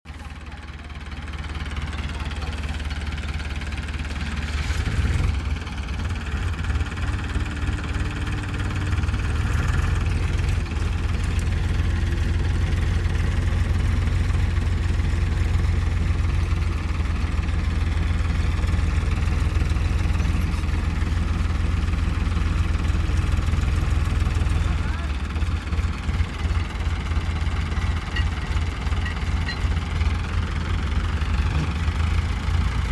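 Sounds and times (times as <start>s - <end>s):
tractor diesel engine rumbling: 0.1s - 32.9s.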